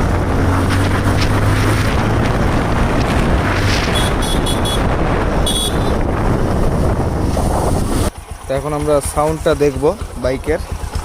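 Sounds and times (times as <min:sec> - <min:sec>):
motorcycle engine drone: 0:00.0 - 0:11.0
road noise: 0:00.0 - 0:11.0
wind buffeting microphone: 0:00.0 - 0:11.0.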